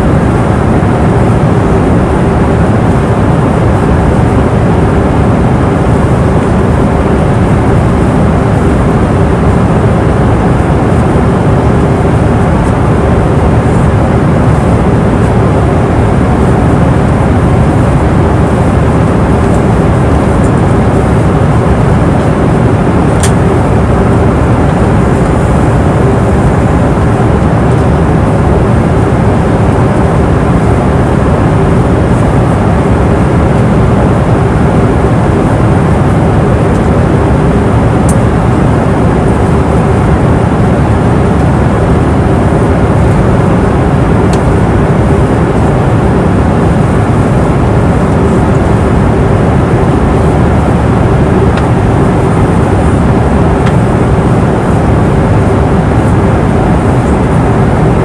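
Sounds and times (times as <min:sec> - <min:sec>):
airliner cabin engine rumble: 0:00.0 - 0:58.0
constant low hum: 0:00.0 - 0:58.0.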